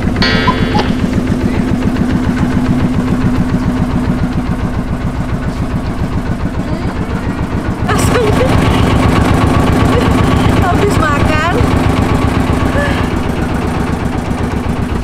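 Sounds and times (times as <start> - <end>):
boat diesel engine chugging: 0.0 - 15.0.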